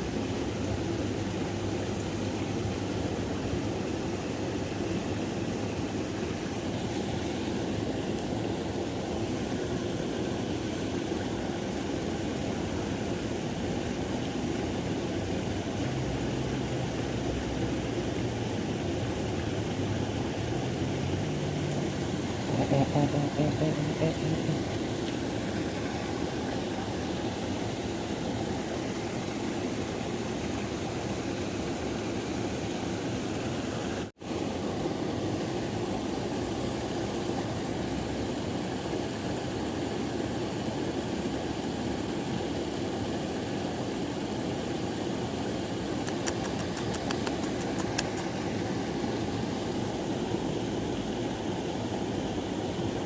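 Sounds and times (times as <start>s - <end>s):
river water rushing: 0.0s - 44.1s, 44.8s - 53.0s.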